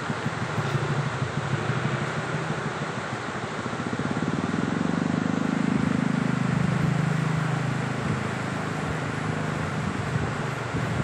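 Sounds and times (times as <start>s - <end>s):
river water pouring over weir: 0.0s - 11.0s.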